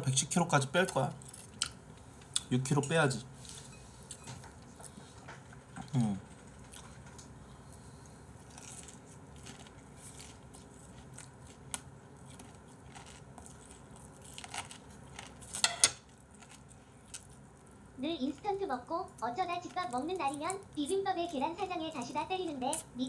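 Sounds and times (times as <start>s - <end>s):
chewing crispy chicken: 0.9s - 2.5s, 3.4s - 22.9s.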